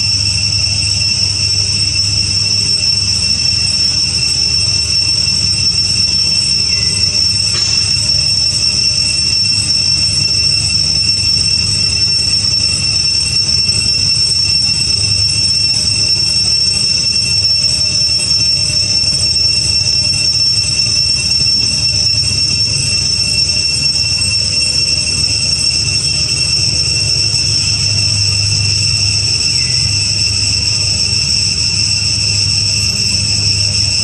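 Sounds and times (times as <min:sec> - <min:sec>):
cicadas droning: 0:00.0 - 0:34.0.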